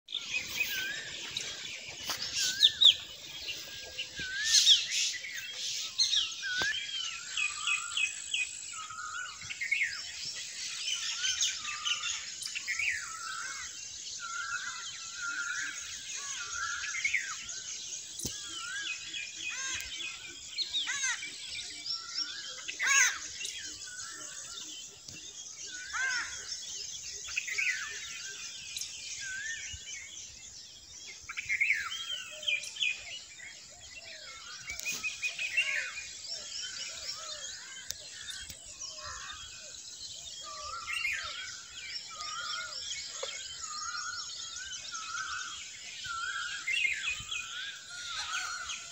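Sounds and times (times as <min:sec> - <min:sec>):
birds chirping and whistling: 0:00.1 - 0:48.9.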